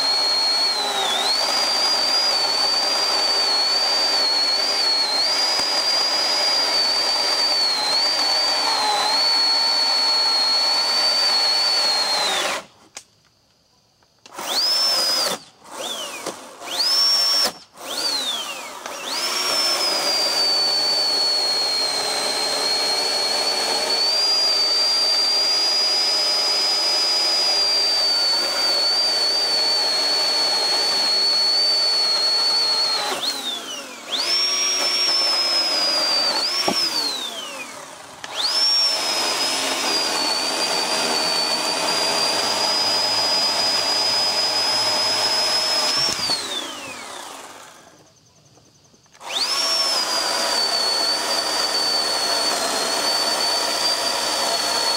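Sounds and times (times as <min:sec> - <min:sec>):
battery chainsaw motor whining: 0:00.0 - 0:54.9.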